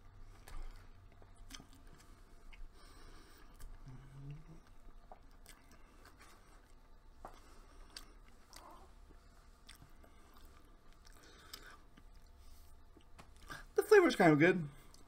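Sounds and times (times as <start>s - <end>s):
faint chewing: 0.0s - 13.7s.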